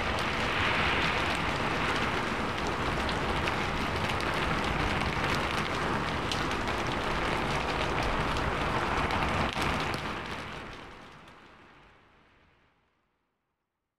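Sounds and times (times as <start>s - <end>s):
rain falling: 0.0s - 11.7s.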